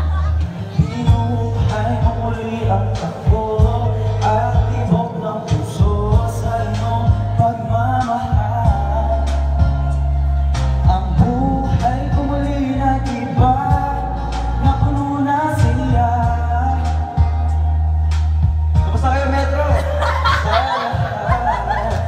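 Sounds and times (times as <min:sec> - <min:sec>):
backing track with bass and drums: 0:00.0 - 0:22.0
man singing into microphone: 0:00.0 - 0:22.0.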